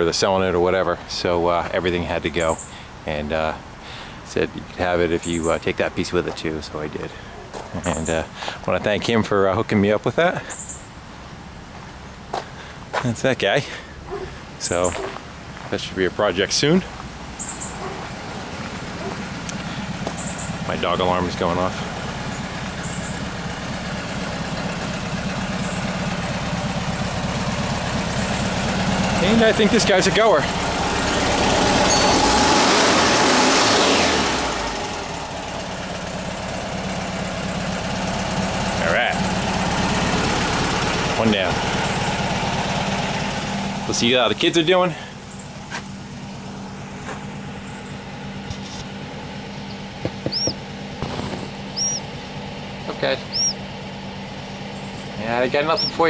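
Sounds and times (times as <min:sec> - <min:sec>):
engine idling: 0:00.0 - 0:56.0
nestling birds chirping: 0:01.0 - 0:09.0, 0:10.4 - 0:33.9, 0:34.8 - 0:56.0.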